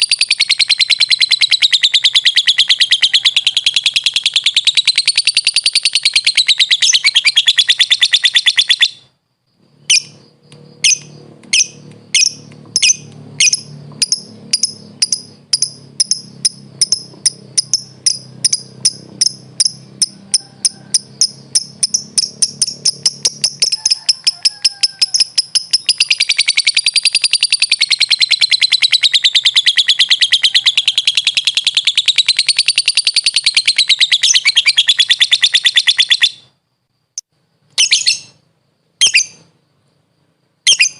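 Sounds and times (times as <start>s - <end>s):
lovebird chattering song: 0.0s - 9.1s, 9.7s - 36.5s, 37.2s - 38.4s, 39.0s - 39.5s, 40.7s - 40.9s.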